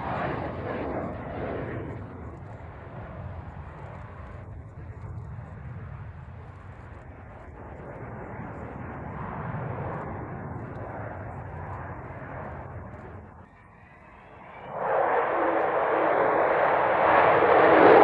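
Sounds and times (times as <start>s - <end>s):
low jet rumble: 0.0s - 18.0s.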